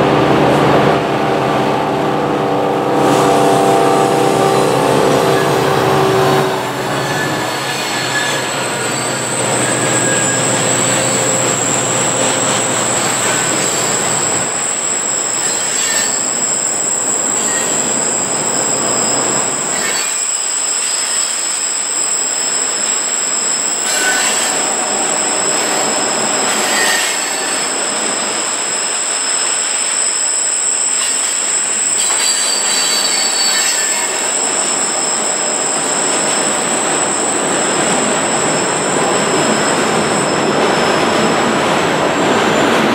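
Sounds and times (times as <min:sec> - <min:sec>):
rail cars rumbling past: 0:00.0 - 0:42.9
high-pitched wheel squeal: 0:00.8 - 0:42.7.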